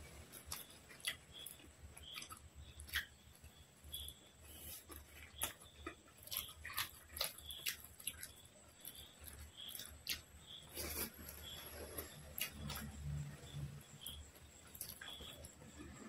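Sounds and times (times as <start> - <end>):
wet chewing and lip smacking: 0.1 - 13.4, 14.0 - 16.0.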